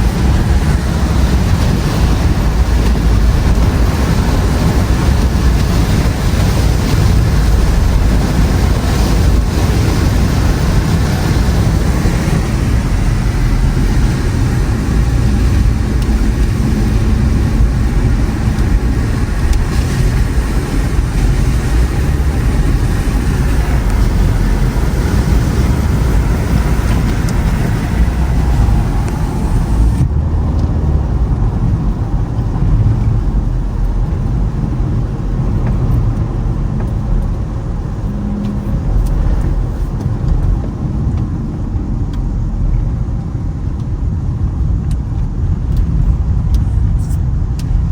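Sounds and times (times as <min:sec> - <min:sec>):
higher road hiss: 0:00.0 - 0:44.2
car engine: 0:00.0 - 0:47.9
road and tyre rumble: 0:00.0 - 0:47.9.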